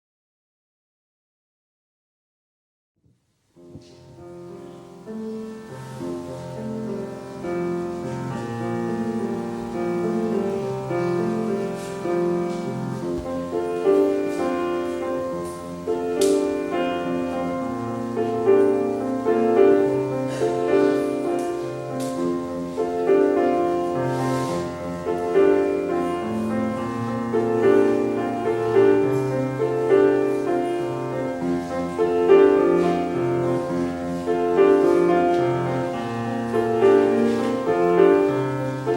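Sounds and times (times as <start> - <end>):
slow piano chords: 3.6 - 38.9.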